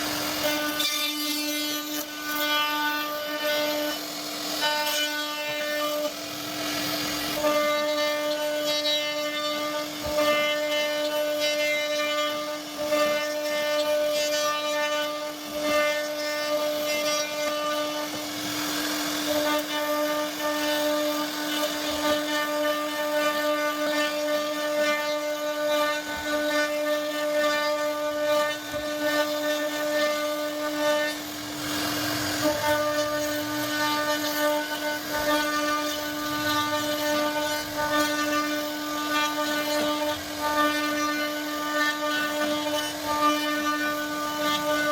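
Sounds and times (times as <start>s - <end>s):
rough wood cutting noise: 0.0s - 44.9s
router spindle whine: 0.0s - 44.9s.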